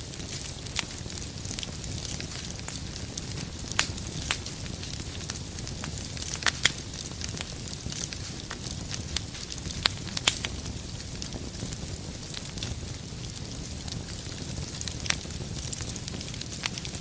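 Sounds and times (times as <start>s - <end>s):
firewood crackling and popping: 0.0s - 17.0s
wood fire burning: 0.0s - 17.0s.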